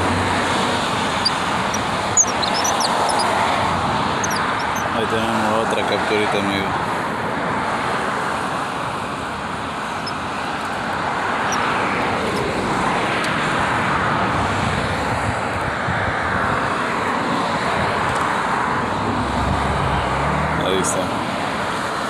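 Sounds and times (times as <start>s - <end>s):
steady rushing noise: 0.0s - 19.2s.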